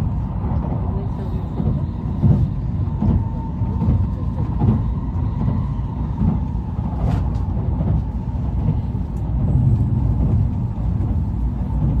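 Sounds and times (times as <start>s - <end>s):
high-speed train rumbling: 0.0s - 12.0s.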